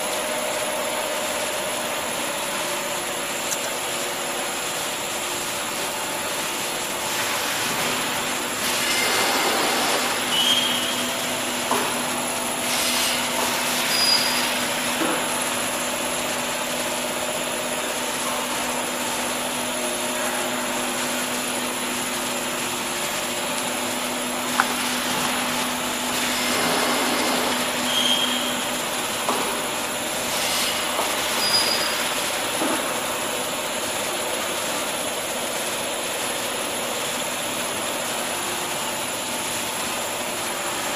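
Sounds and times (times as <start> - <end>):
machinery running with whine: 0.0 - 40.9.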